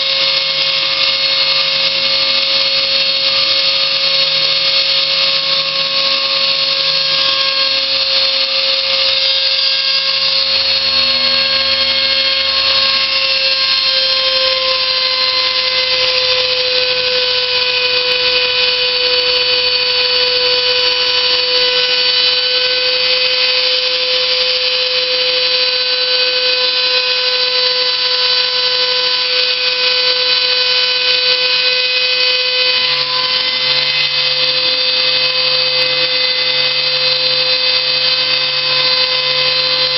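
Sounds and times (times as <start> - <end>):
cnc machine motor whine: 0.0 - 39.9.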